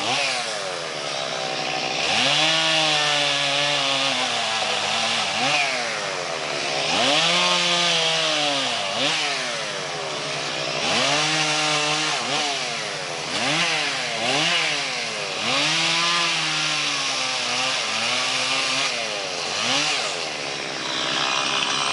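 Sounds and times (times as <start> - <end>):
chainsaw cutting wood: 0.0 - 21.9.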